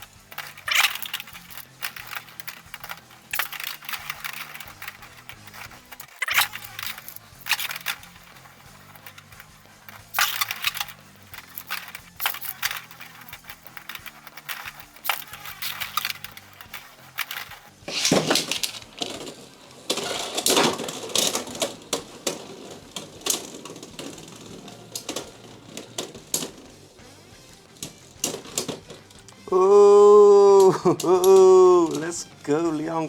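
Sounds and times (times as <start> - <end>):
spinning tops clashing in plastic arena: 0.0 - 33.0.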